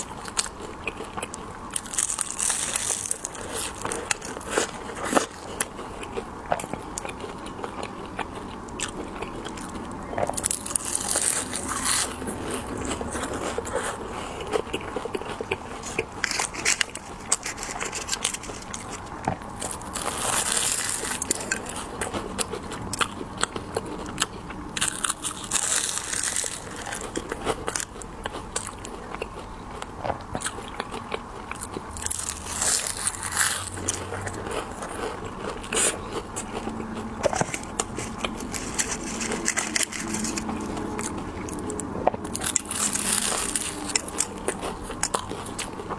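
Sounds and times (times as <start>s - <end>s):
chewing crunchy candy: 0.0s - 45.9s.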